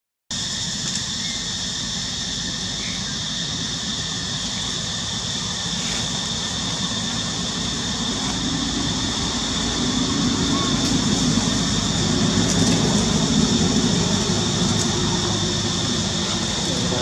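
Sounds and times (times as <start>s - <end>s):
high-pitched buzzing drone: 0.3s - 17.0s.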